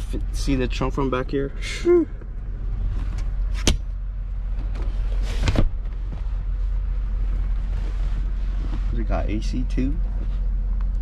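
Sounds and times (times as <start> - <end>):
low rumble in car cabin: 0.0 - 11.0.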